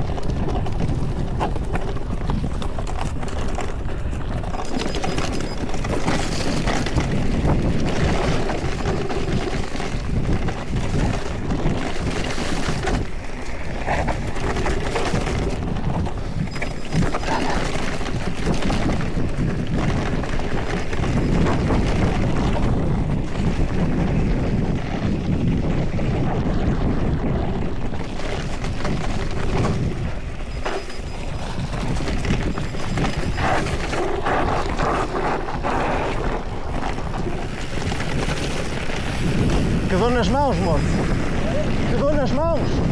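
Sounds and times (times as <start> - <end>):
tyres rumbling on rough ground: 0.0 - 42.9
wind buffeting microphone: 0.0 - 42.9.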